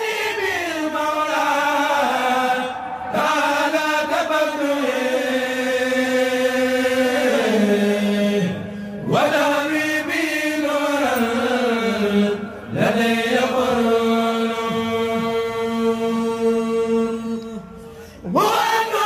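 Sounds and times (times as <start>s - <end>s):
choir chanting with long held notes: 0.0s - 19.0s.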